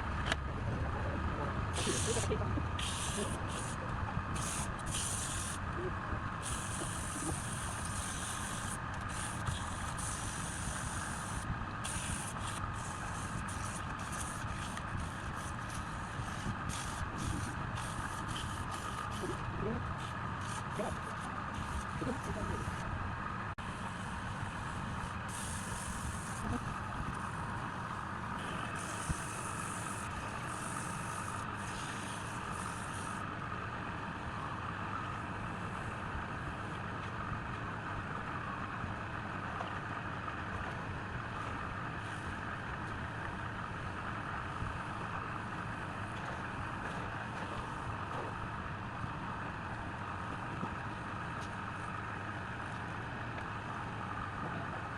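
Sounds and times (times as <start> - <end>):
machine droning hum: 0.0 - 54.9.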